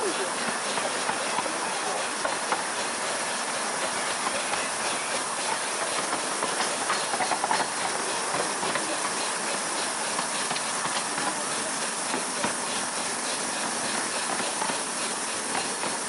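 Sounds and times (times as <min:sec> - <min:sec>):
hiss of steam: 0:00.0 - 0:16.0
miniature steam locomotive running: 0:00.0 - 0:16.0
wheels clicking on track: 0:00.0 - 0:16.0.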